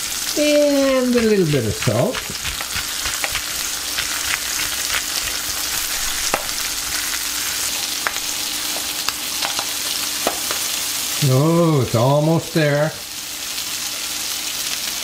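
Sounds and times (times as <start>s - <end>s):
fish frying in butter: 0.0s - 15.0s.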